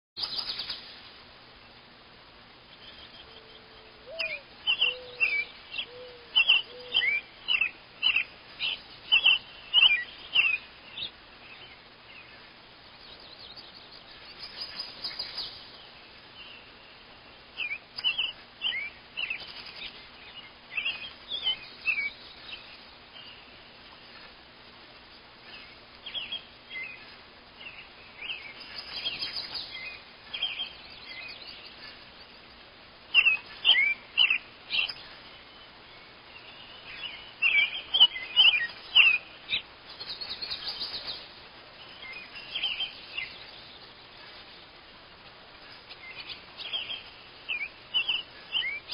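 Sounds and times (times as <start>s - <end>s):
small songbird chirping: 0.2s - 48.9s.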